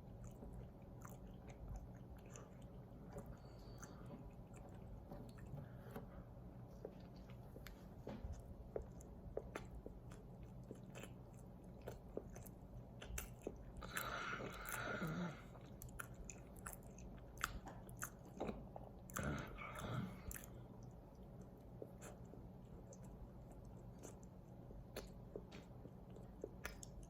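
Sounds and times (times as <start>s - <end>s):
person chewing fruit bar: 0.0s - 27.0s.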